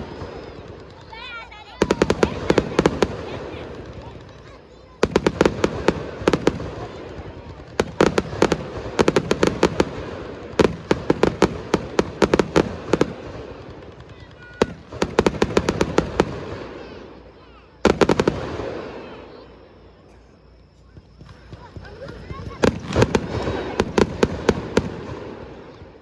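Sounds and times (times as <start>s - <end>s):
fireworks cracking: 0.0s - 26.0s.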